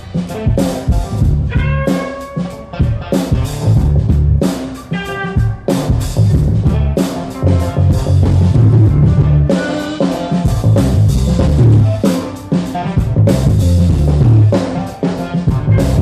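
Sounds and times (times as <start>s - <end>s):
blues-rock band playing: 0.0s - 16.0s
electric guitar lead notes: 0.0s - 16.0s.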